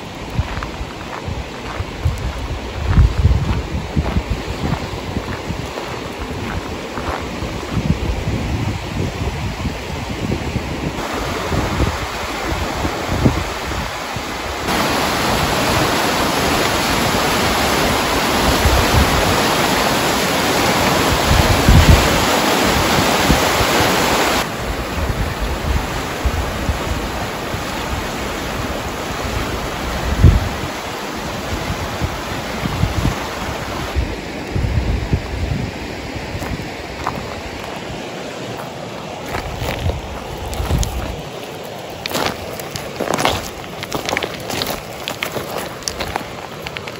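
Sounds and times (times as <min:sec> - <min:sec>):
creek rushing over rocks: 0:00.0 - 0:46.9
wind gusts on microphone: 0:00.0 - 0:46.9.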